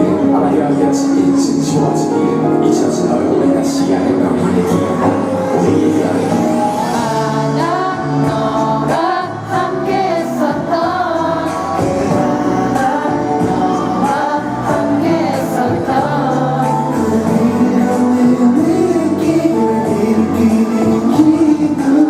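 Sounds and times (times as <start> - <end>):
backing track with bass line: 0.0 - 22.0
person singing pop song: 0.0 - 22.0.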